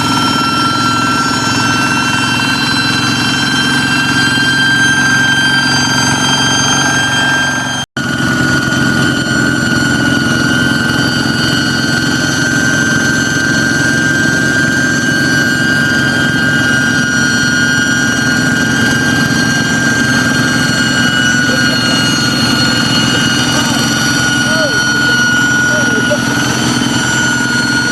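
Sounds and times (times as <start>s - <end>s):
diesel engine running: 0.0s - 27.9s
high-pitched engine whistle: 0.0s - 27.9s.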